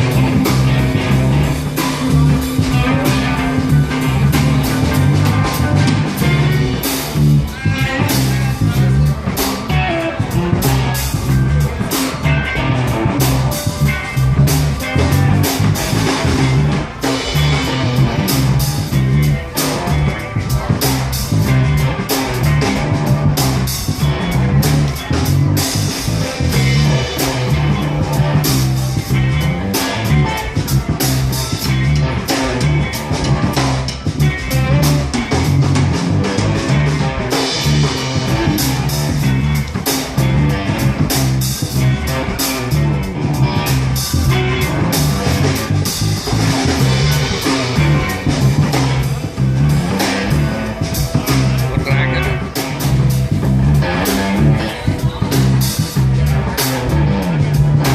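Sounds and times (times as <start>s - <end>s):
drum kit steady beat: 0.0s - 57.9s
electric guitar: 0.0s - 57.9s
heavy bass line: 0.0s - 57.9s.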